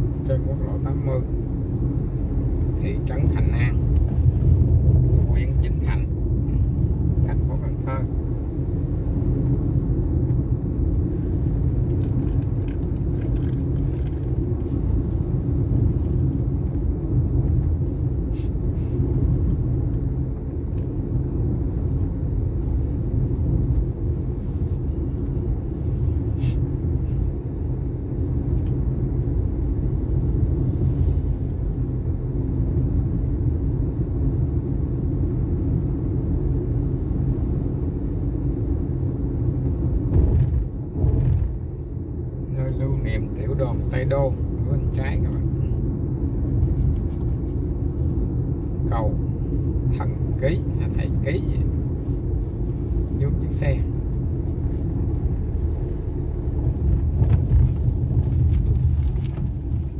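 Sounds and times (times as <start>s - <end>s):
vehicle rumbling along highway: 0.0s - 59.9s.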